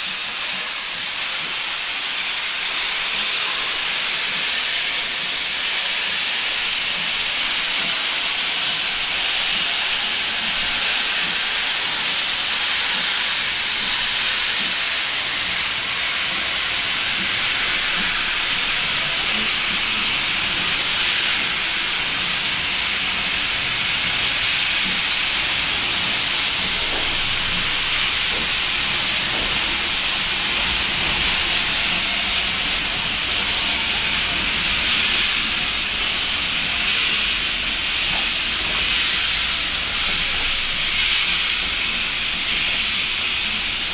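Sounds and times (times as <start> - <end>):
steam locomotive hissing: 0.0 - 43.9
train rolling rumble: 0.0 - 43.9.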